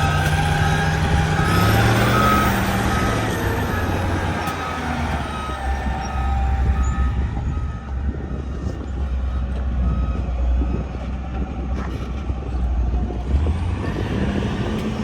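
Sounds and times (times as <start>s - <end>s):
reversing alarm beeping: 0.0s - 13.1s
heavy diesel machinery running: 0.0s - 15.0s.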